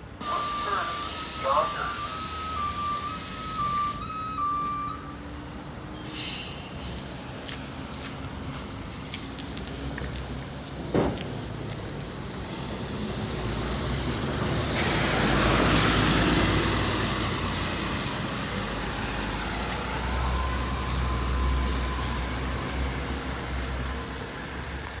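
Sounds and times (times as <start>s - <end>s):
bus driving by: 0.0s - 25.0s.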